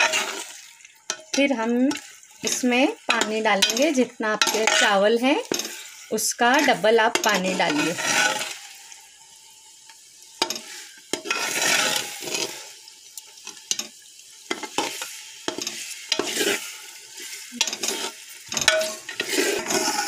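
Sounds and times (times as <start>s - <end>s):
spoon scraping a pot: 0.0s - 8.8s, 10.4s - 12.7s, 14.5s - 20.0s
food sizzling: 0.0s - 20.0s.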